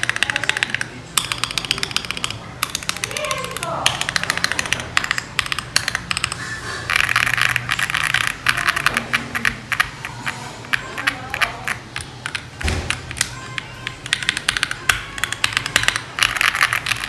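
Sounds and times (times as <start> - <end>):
keyboard keystroke clacks: 0.0 - 17.0.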